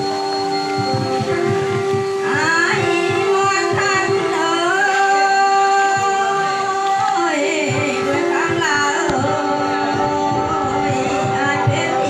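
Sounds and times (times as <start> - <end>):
held drone notes: 0.0 - 12.0
person singing folk song: 0.0 - 12.0.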